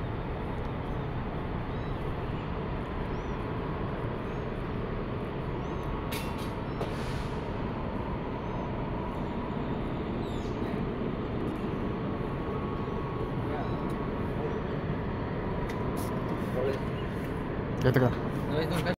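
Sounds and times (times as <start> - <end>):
low rumbling background noise: 0.0 - 18.9.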